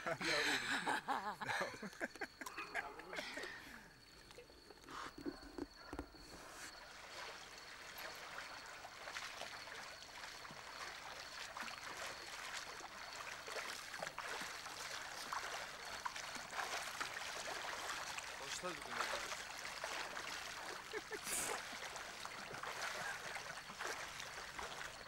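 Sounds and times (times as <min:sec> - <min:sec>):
swimmer splashing in water: 0:04.9 - 0:25.0.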